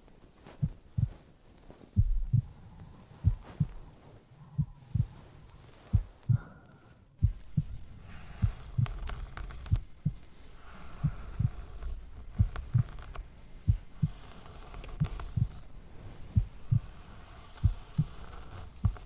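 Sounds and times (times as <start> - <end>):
soft hiss: 0.0 - 19.0
heartbeat thumps: 0.4 - 6.6, 7.2 - 19.0.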